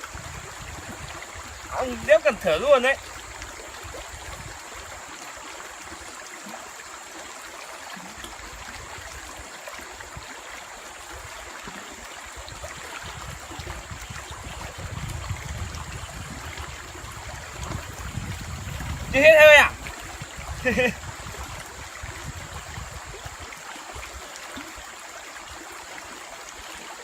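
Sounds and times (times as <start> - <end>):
stream flowing and trickling: 0.0 - 27.0.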